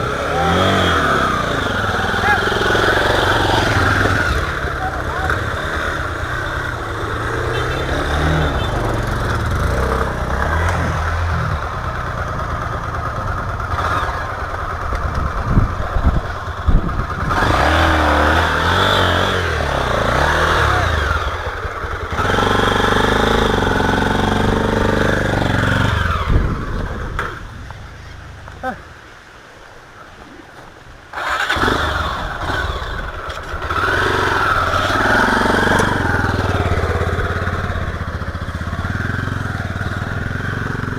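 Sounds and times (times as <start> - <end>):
motorcycle engine revving: 0.0 - 28.8, 31.1 - 40.9.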